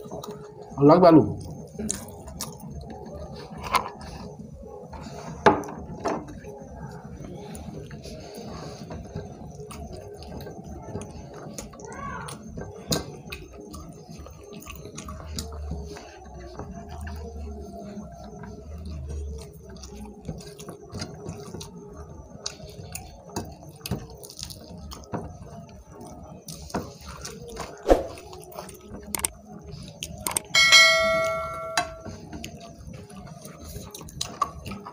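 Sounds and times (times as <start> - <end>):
chewing and wet mouth sounds: 0.0 - 30.5, 32.4 - 34.9.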